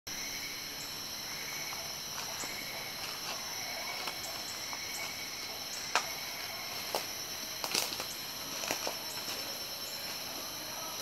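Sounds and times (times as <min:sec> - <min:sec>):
insects droning: 0:00.1 - 0:11.0.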